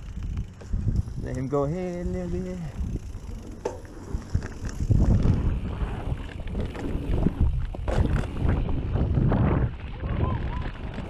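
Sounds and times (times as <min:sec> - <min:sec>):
bike rattling and knocking: 0:00.0 - 0:09.3
bike tyres rumbling on dirt: 0:00.0 - 0:11.0
wind noise on microphone: 0:00.0 - 0:11.0.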